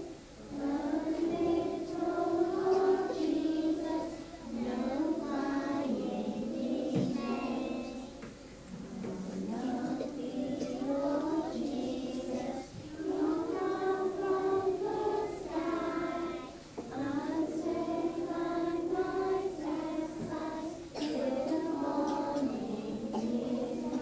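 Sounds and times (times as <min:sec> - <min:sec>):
children singing a lullaby: 0:00.0 - 0:24.0.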